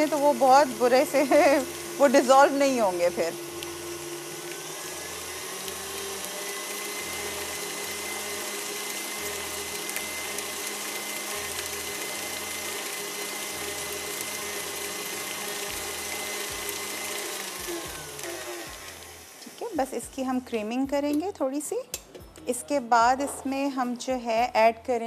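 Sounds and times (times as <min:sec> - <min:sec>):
electric mixer motor whine: 0:00.0 - 0:20.4.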